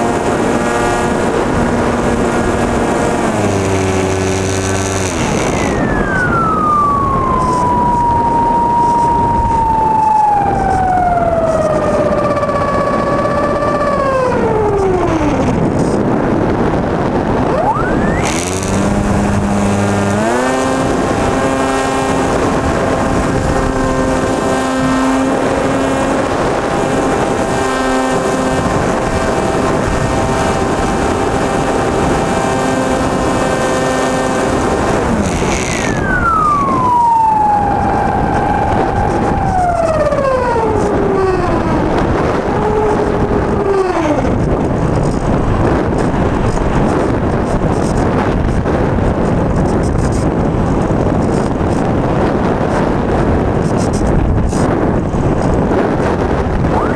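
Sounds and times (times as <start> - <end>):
electric motor and propeller whining: 0.0 - 56.9.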